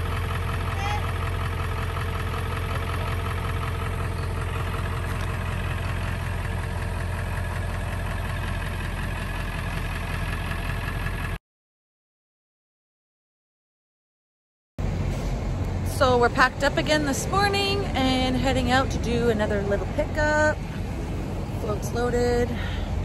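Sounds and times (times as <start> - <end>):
pickup truck engine idling: 0.0 - 11.4, 14.8 - 23.0.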